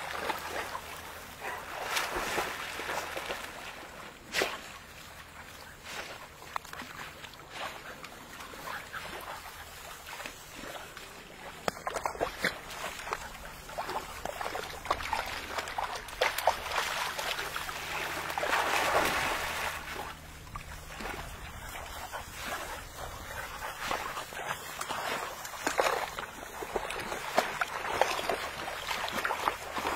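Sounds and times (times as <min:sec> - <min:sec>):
dogs splashing in water: 0:00.0 - 0:29.9.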